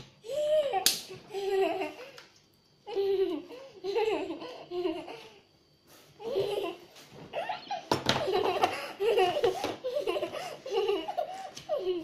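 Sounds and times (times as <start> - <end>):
girl laughing: 0.2 - 2.2, 2.9 - 5.5, 6.2 - 12.0.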